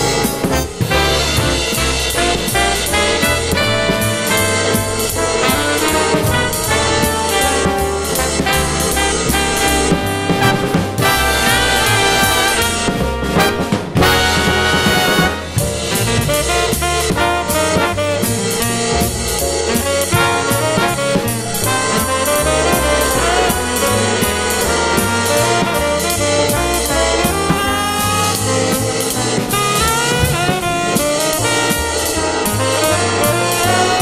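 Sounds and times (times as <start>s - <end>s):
live drum kit with cymbals: 0.0s - 34.0s
recorded jazz ensemble with brass: 0.0s - 34.0s.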